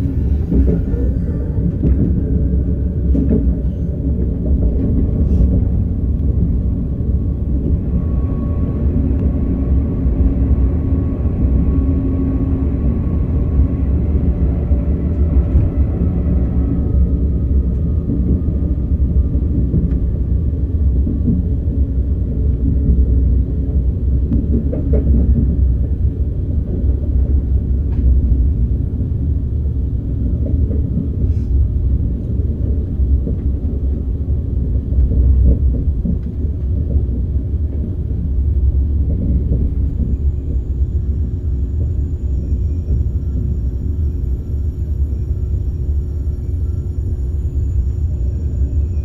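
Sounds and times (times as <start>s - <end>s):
train rumbling on rails: 0.0s - 49.0s.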